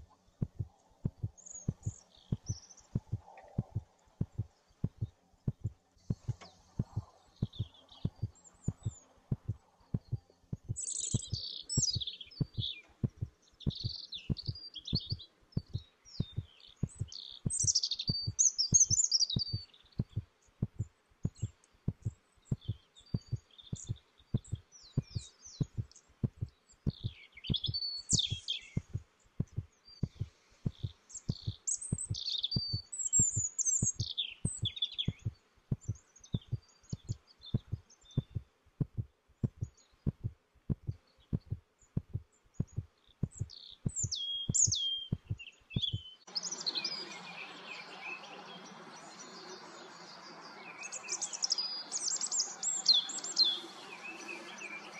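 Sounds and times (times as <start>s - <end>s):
low heartbeat-like pulse: 0.0s - 46.1s
birds chirping and twittering: 0.0s - 54.9s.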